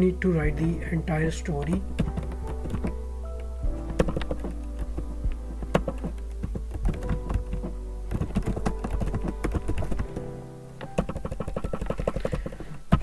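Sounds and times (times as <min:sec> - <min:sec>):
typing on computer keyboard: 0:01.6 - 0:03.0, 0:03.8 - 0:13.0.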